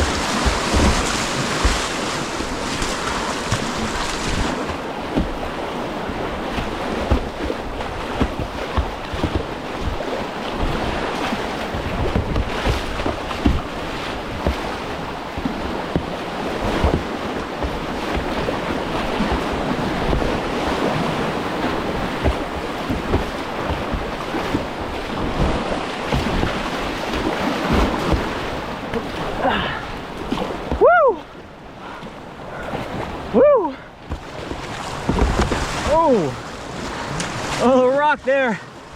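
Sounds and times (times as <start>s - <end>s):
wind buffeting microphone: 0.0s - 31.8s
rushing whitewater: 0.0s - 38.9s.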